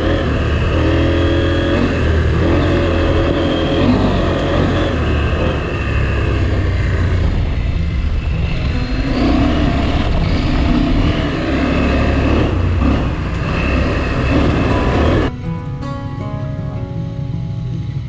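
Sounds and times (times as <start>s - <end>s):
motorcycle engine low rumble: 0.0s - 18.0s.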